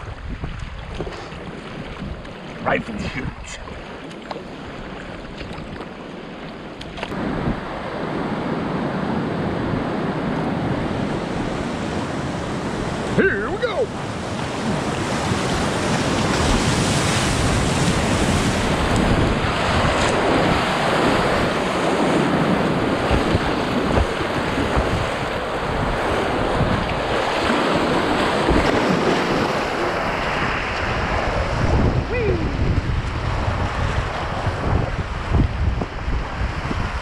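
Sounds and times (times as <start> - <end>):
wind buffeting microphone: 0.0 - 3.8, 7.1 - 13.2, 13.8 - 37.0
whitewater rushing: 7.1 - 37.0.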